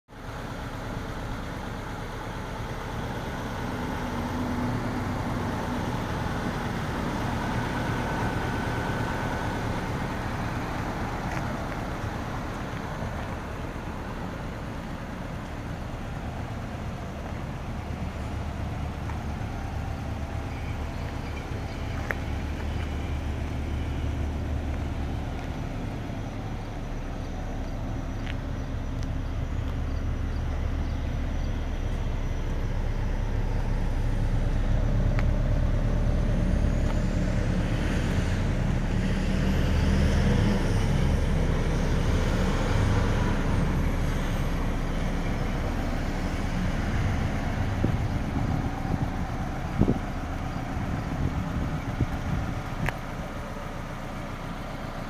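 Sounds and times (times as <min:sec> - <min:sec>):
car engine idling: 0:00.1 - 0:39.4, 0:40.6 - 0:55.0.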